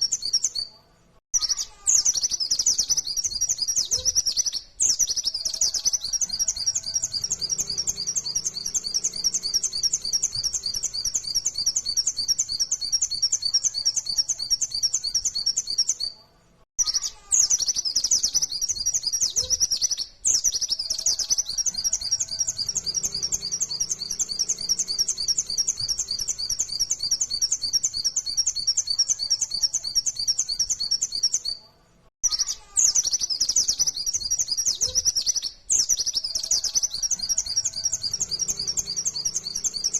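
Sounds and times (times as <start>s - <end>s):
bird singing fast chattering song: 0.0s - 0.7s, 1.4s - 16.2s, 16.8s - 31.6s, 32.2s - 39.9s.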